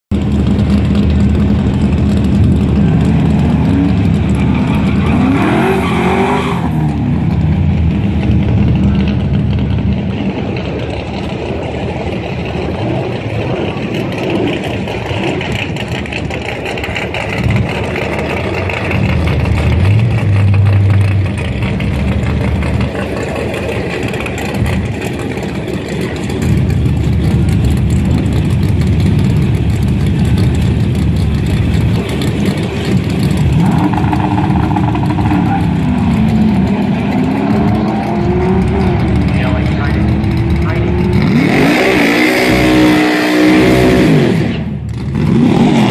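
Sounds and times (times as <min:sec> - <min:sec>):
car engine idling and revving: 0:00.1 - 0:45.9.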